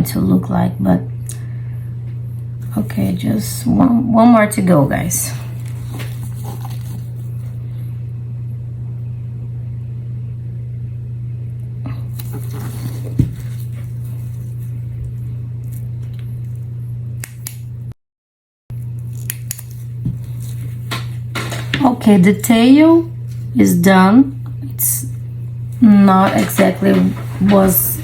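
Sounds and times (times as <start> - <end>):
steady low hum: 0.0 - 18.0, 18.7 - 28.0.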